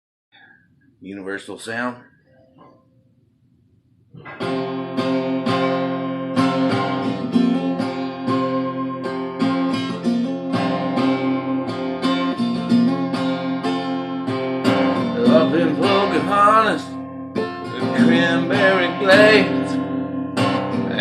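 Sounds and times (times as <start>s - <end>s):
acoustic guitar strumming: 4.2s - 21.0s.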